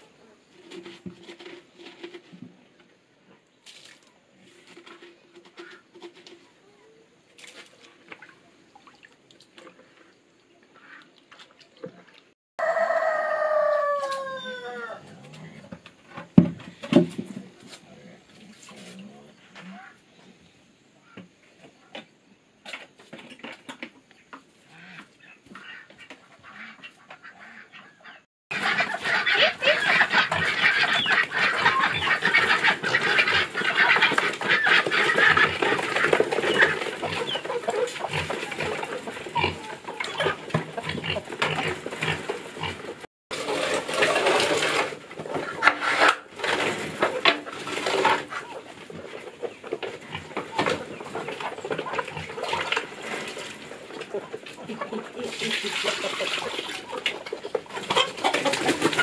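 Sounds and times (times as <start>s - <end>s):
chickens and pigs calling: 4.8s - 7.2s, 10.6s - 11.3s, 11.9s - 59.0s.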